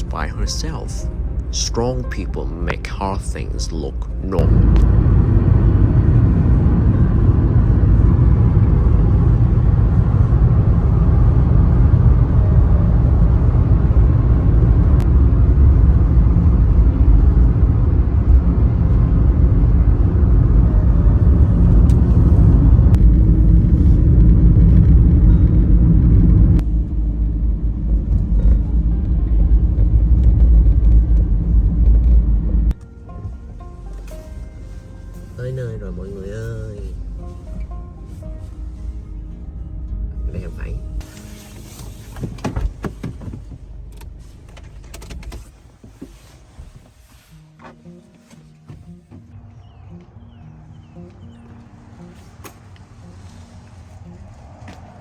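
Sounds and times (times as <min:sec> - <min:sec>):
car road rumble: 0:00.0 - 0:55.0.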